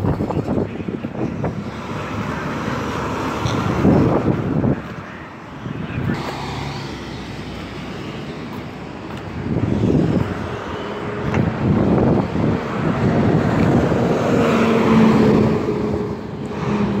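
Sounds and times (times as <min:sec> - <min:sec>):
bus engine droning: 0:00.0 - 0:17.0
road traffic passing: 0:00.0 - 0:17.0.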